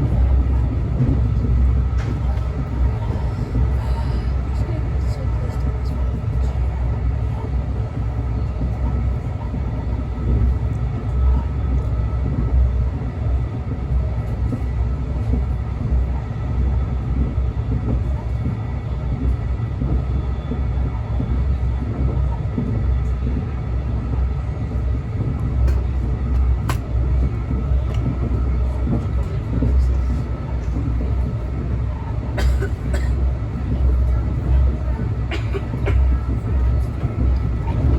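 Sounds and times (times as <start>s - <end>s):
train low rumble: 0.0s - 37.9s.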